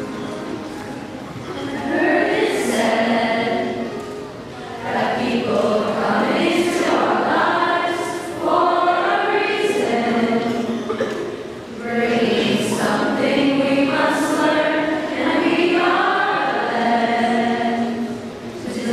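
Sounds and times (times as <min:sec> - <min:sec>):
choir singing: 0:01.5 - 0:18.9.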